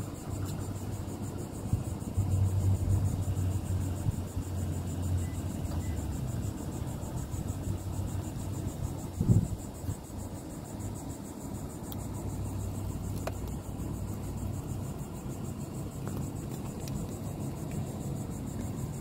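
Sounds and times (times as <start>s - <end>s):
high pulsing insect buzz: 0.0s - 19.0s
low hum inside truck cab: 0.0s - 19.0s.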